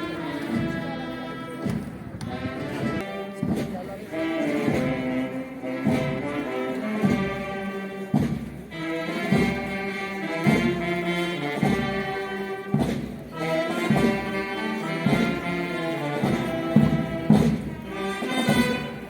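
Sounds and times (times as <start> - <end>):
brass band slow march: 0.0 - 19.0
drum beat: 3.1 - 19.0.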